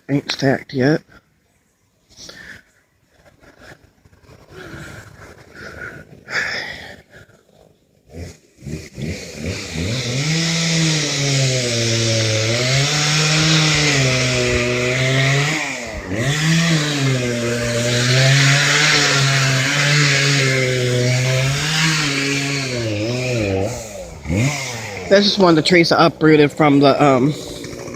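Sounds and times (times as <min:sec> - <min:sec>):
chainsaw cutting wood: 0:03.2 - 0:06.5, 0:07.2 - 0:27.9.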